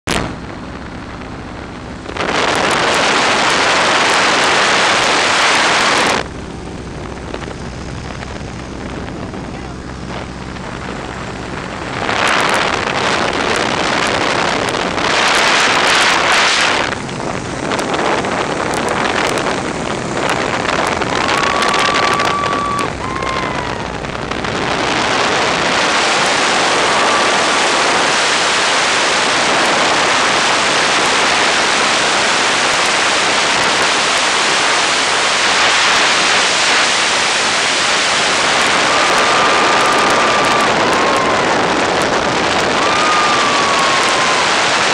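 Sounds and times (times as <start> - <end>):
airplane engine running: 0.1 - 44.9
wind rushing over microphone: 0.1 - 44.9.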